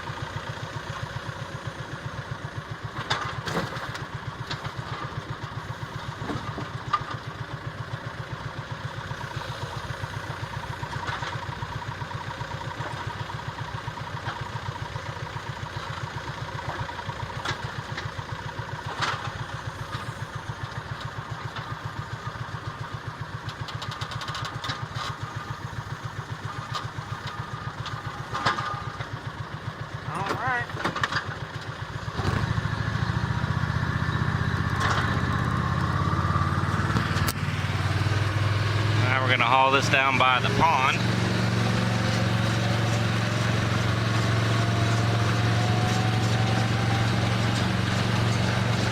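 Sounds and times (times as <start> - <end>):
utility vehicle engine idling: 0.0 - 48.9.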